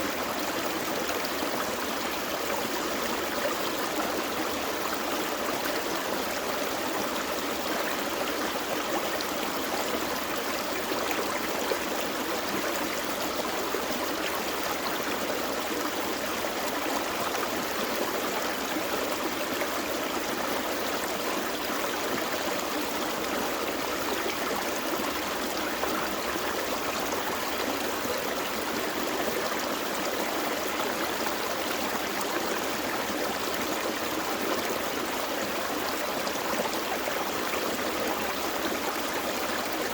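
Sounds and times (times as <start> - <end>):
creek gurgling over rocks: 0.0 - 39.9.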